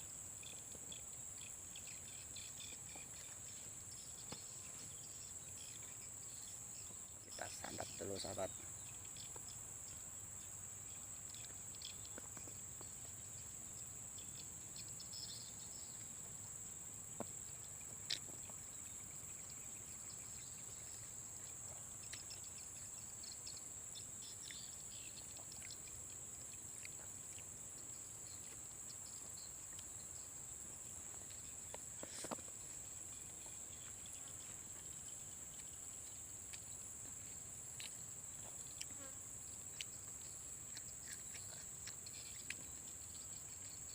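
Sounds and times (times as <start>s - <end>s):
forest insects droning: 0.0s - 43.9s.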